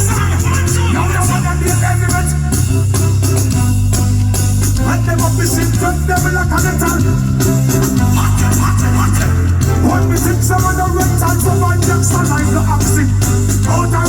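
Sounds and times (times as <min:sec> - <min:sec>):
live reggae band music: 0:00.0 - 0:14.0.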